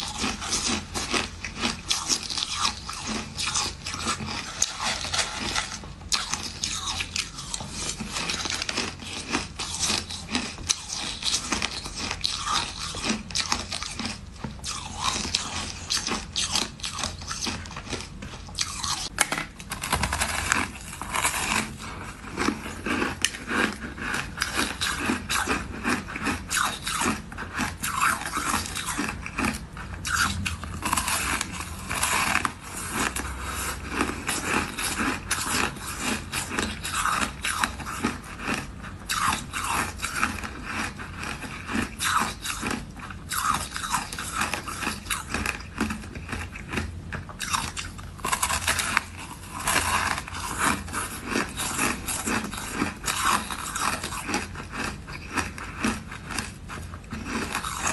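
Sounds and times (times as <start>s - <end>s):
ice being bitten and chewed: 0.0s - 57.9s.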